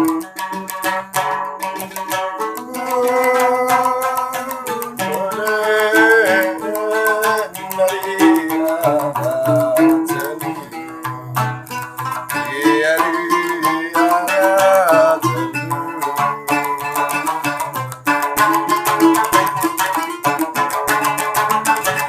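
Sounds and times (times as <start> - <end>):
plucked lute melody: 0.0 - 22.0.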